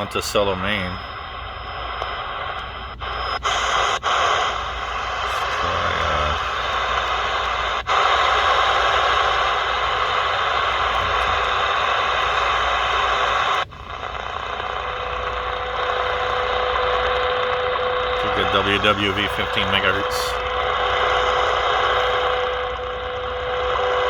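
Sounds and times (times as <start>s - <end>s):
radio static hissing: 0.0s - 24.0s
steady radio tone: 0.0s - 24.0s.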